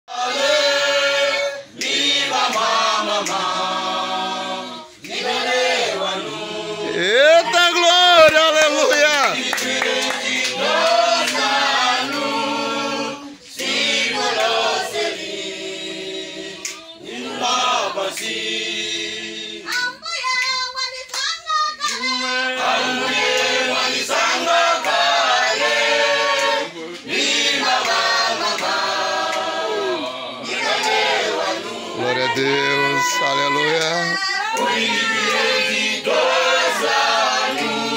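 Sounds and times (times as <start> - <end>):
congregation singing unaccompanied: 0.1 - 37.9.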